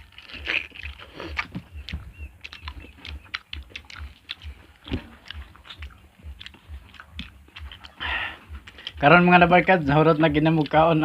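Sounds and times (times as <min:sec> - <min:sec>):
wet mouth clicks and smacks: 0:00.0 - 0:09.0
low chewing thud: 0:00.0 - 0:10.9.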